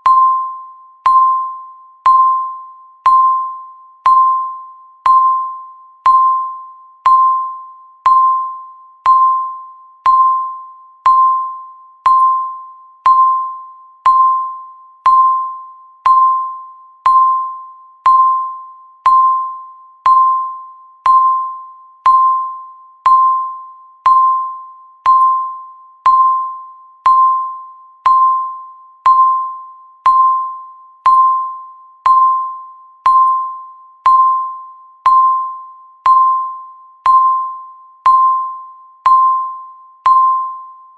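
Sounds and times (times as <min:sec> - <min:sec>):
bell-like timer ding: 0:00.0 - 0:40.9.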